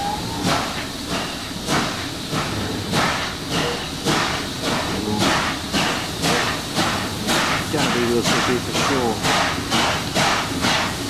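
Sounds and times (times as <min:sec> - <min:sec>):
steam locomotive exhaust chuffing: 0:00.0 - 0:11.0
train rumble: 0:00.0 - 0:11.0.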